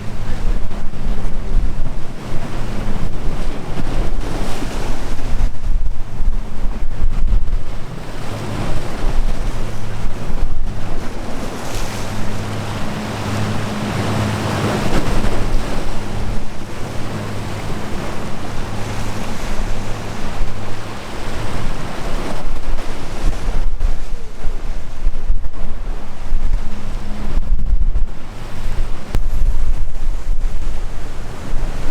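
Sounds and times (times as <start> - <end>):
sea waves breaking: 0.0 - 31.9
steady low hum: 0.0 - 31.9
wind buffeting microphone: 0.0 - 31.9.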